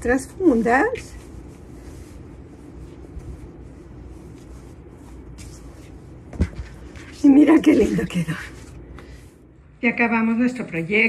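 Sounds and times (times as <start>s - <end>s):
cotton fabric rustling: 0.0s - 9.6s
steady low hum: 0.0s - 11.0s.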